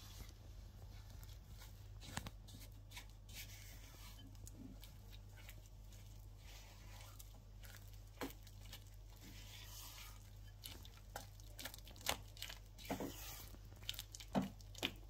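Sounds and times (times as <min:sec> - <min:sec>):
spatula squishing cream cheese: 0:00.0 - 0:15.0.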